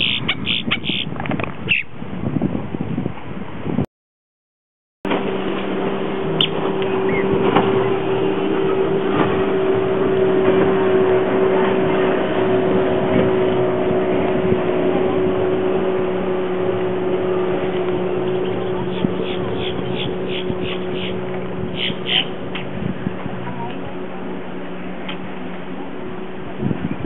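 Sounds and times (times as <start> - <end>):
engine drone: 5.0 - 27.0.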